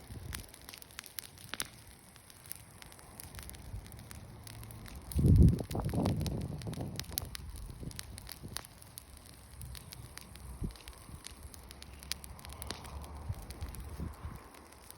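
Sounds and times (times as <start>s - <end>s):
bonfire crackling and popping: 0.0s - 14.9s
low rumble of flames: 0.0s - 14.9s.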